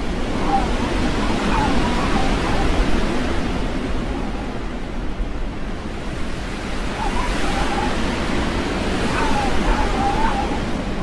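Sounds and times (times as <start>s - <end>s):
faint wavering wind howl: 0.0s - 11.0s
strong wind rushing: 0.0s - 11.0s.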